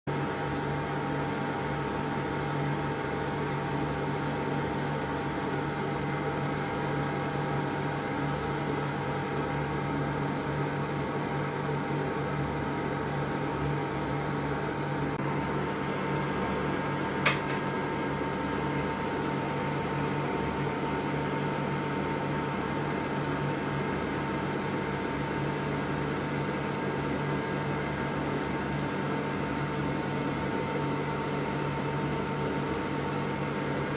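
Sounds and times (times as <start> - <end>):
low machine hum: 0.1 - 33.9.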